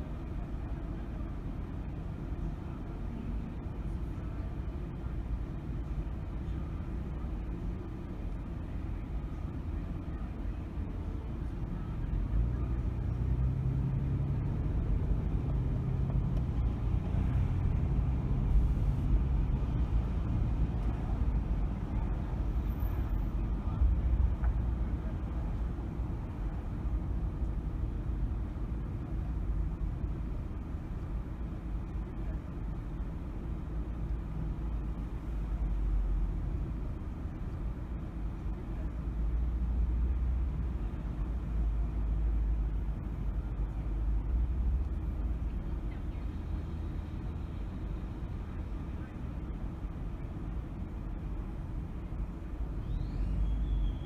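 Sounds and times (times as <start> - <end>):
car tyres and engine rumbling: 0.0 - 54.0.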